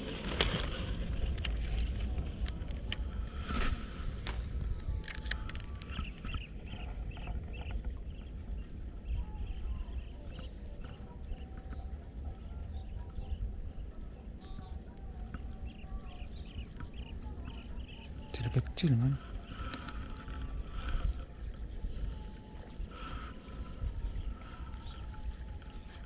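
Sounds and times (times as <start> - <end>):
insect chirps: 0.0 - 26.0
insects trilling: 0.0 - 26.0
low outdoor rumble: 0.0 - 26.0.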